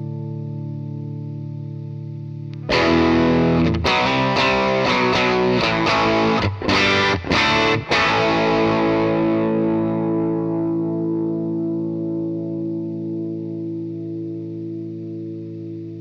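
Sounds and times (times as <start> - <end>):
overdriven electric guitar chords: 0.0 - 16.0.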